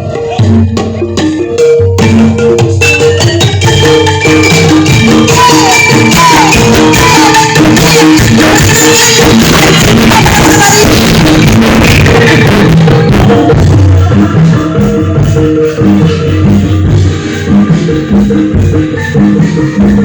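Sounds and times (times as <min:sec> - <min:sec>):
angklung music over sound system: 0:00.0 - 0:20.0.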